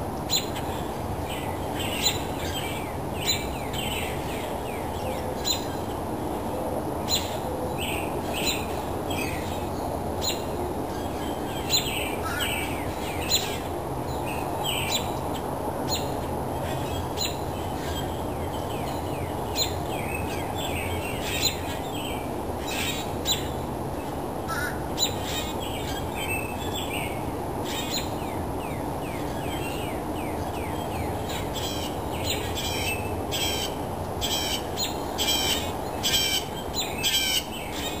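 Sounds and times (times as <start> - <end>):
low background noise: 0.0 - 38.0
birdsong chirps and calls: 0.1 - 38.0.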